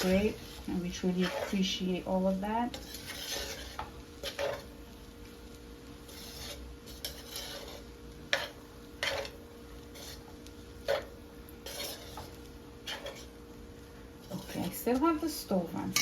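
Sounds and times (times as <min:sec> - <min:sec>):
utensil stirring rice in a pan: 0:00.0 - 0:16.0.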